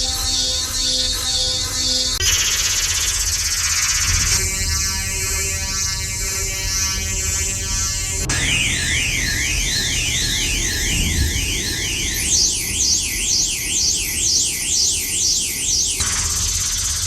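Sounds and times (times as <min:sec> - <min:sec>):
sweeping electronic alarm tone: 0:00.0 - 0:17.0.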